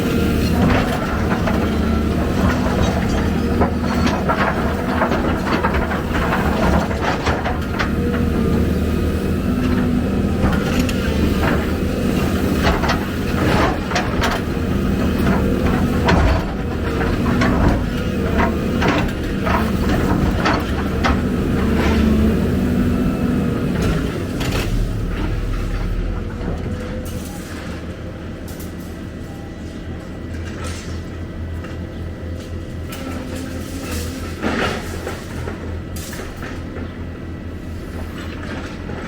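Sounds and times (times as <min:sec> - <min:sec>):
diesel excavator engine running: 0:00.0 - 0:39.0.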